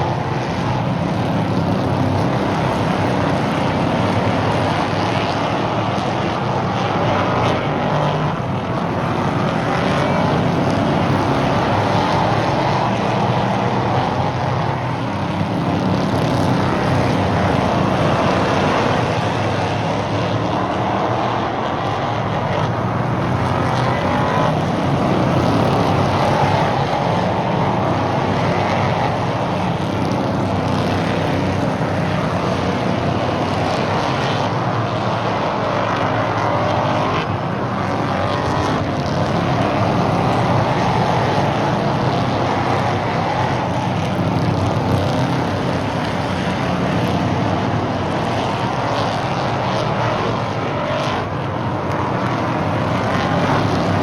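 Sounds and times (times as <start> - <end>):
race car engines roaring: 0.0 - 54.0.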